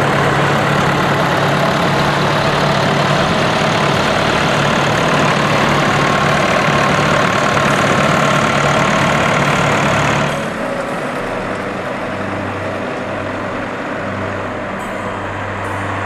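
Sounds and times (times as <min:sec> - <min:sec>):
tractor engine running: 0:00.0 - 0:16.0
tractors driving past: 0:00.0 - 0:16.0.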